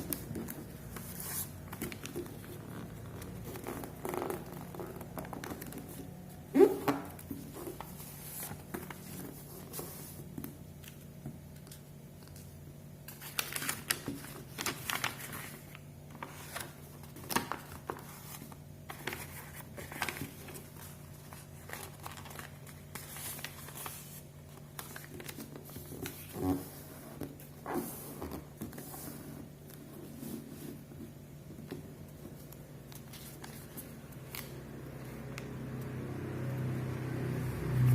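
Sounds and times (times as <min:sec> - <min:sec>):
paper rustling and crinkling: 0:00.0 - 0:35.4.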